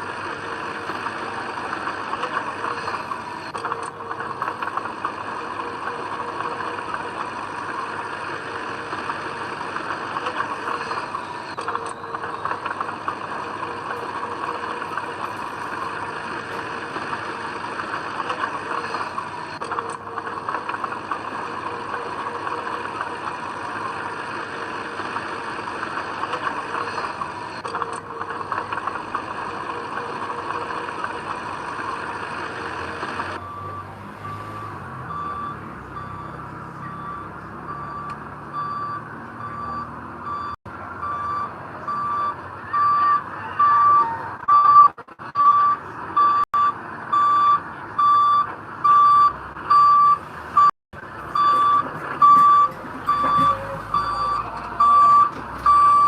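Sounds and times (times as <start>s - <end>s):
diesel engine of heavy machinery: 0.0s - 56.0s.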